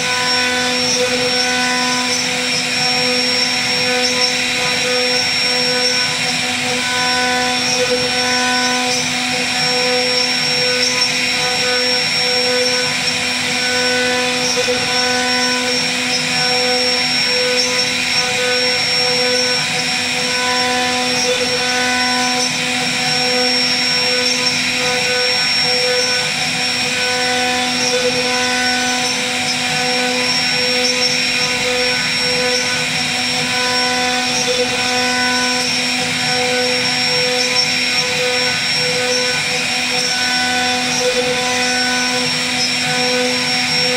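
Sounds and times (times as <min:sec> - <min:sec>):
bit cutting wood: 0:00.0 - 0:43.9
router spindle whining: 0:00.0 - 0:43.9.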